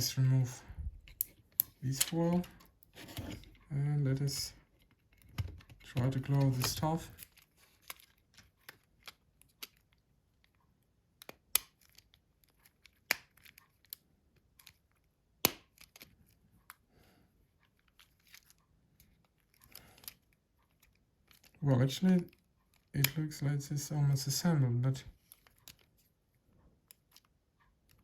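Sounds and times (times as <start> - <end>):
plastic parts clicking and tapping: 1.0 - 16.9, 17.6 - 23.3, 25.1 - 28.0.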